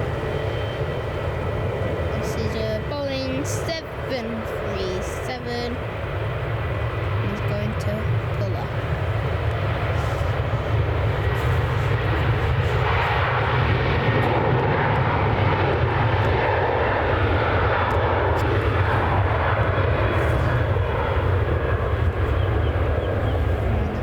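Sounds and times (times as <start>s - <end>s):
jet engines at take-off power: 0.0s - 24.0s.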